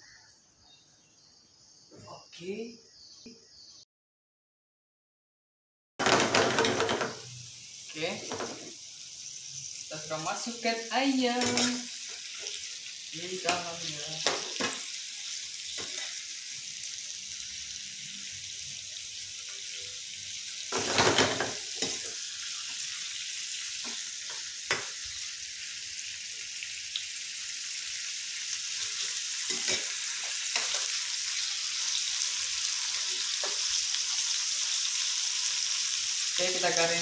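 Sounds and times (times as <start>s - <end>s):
chicken sizzling in hot oil: 6.0s - 37.0s.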